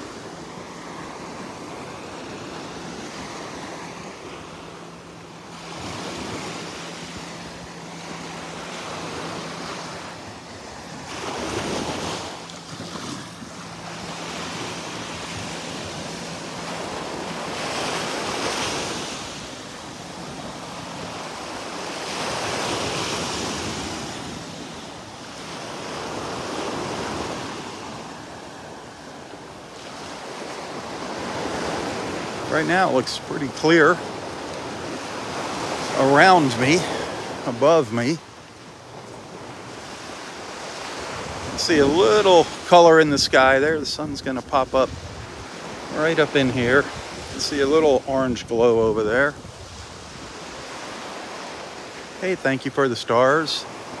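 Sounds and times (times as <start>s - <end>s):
small waves breaking on shore: 0.0s - 54.0s.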